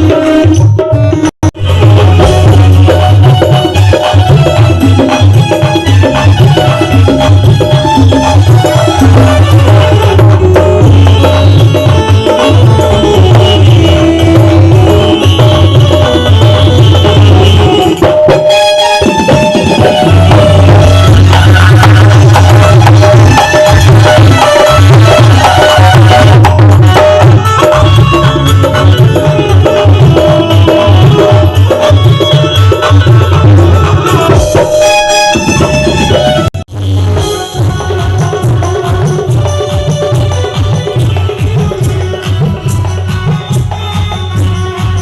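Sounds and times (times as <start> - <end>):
music with hand drums and bass: 0.0 - 45.0.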